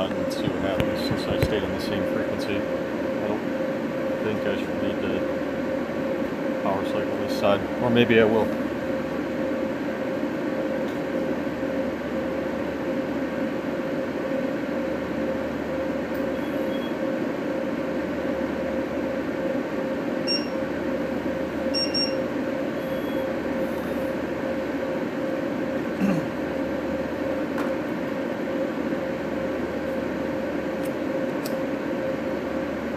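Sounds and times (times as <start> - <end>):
fan motor humming: 0.0 - 32.9.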